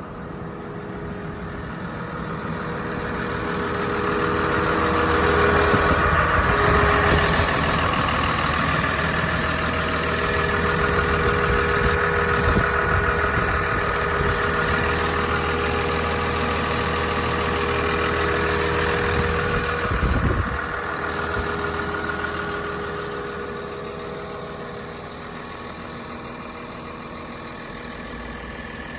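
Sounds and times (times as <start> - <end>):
low rumble: 0.0 - 24.8
wheel loader diesel engine running: 0.0 - 28.9.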